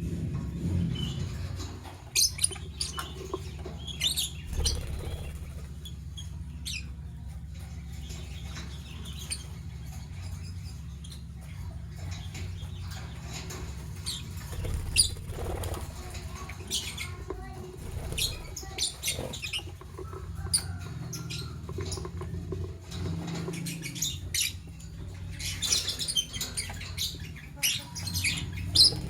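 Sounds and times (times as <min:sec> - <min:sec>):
steady low hum: 0:00.0 - 0:29.0
lovebirds chirping: 0:00.9 - 0:29.0.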